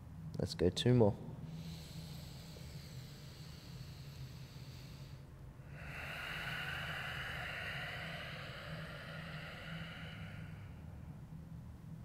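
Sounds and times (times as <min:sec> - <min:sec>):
low hum: 0:01.1 - 0:12.0
long breathy exhale: 0:01.4 - 0:11.4.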